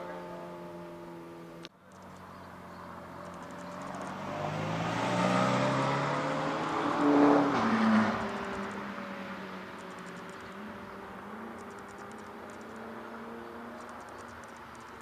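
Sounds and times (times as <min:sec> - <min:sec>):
sports car accelerating past: 0:00.0 - 0:15.0.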